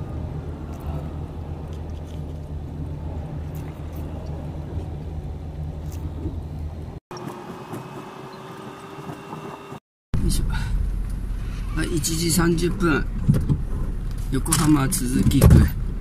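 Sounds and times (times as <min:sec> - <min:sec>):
road noise inside truck cab: 0:00.0 - 0:16.0.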